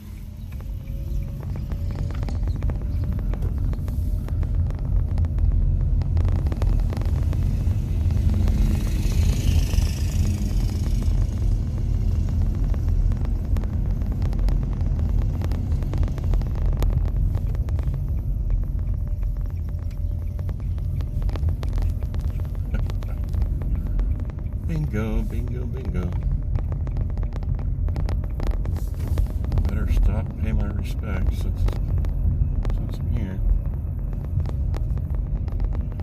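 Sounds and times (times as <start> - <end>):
road and tyre rumble in car: 0.0 - 36.0.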